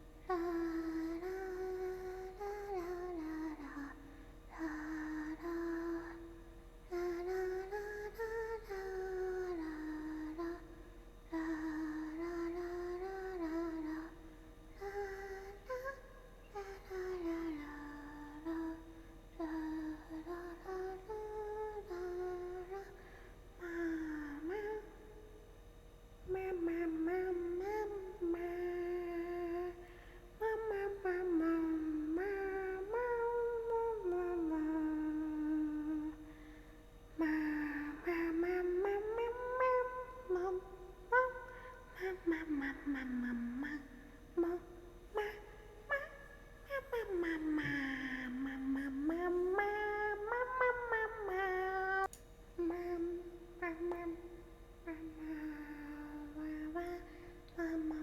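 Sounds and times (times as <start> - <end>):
woman humming a tune: 0.0 - 25.4, 26.2 - 58.0.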